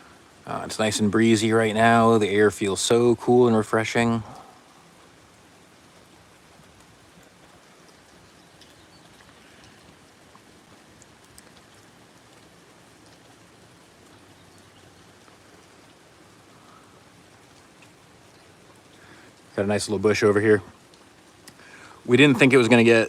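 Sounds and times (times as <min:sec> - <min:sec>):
rain hiss: 0:00.0 - 0:23.0
water drips ticking: 0:02.2 - 0:23.0.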